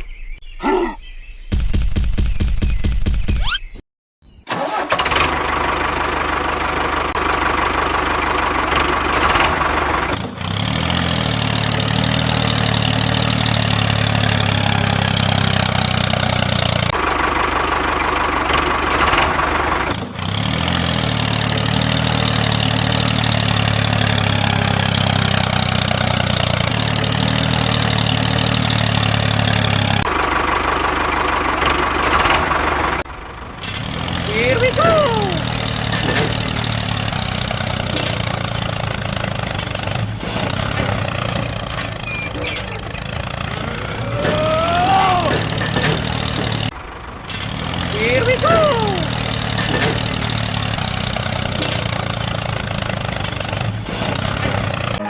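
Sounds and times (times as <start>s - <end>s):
engine idling: 4.5s - 55.0s.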